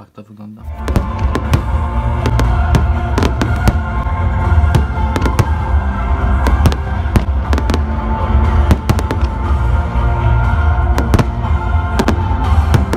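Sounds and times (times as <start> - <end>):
background music with heavy bass: 0.6 - 12.9
fireworks bangs and crackles: 0.7 - 12.9.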